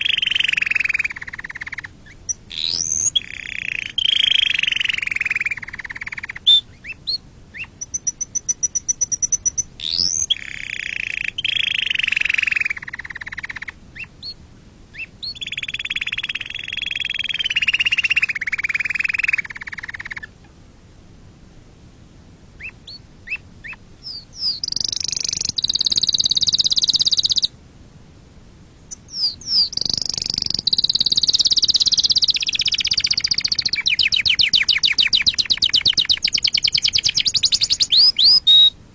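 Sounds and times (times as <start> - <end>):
canaries singing: 0.0 - 20.4, 22.6 - 27.5, 28.9 - 38.8.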